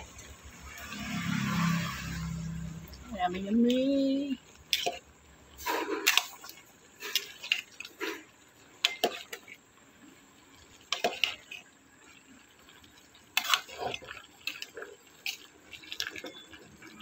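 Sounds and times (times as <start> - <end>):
soup sloshing: 0.0 - 9.6, 10.4 - 17.0.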